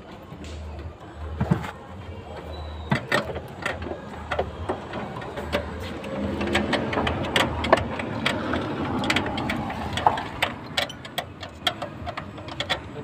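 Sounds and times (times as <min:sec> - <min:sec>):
clicks and knocks on dashboard: 0:01.4 - 0:13.0.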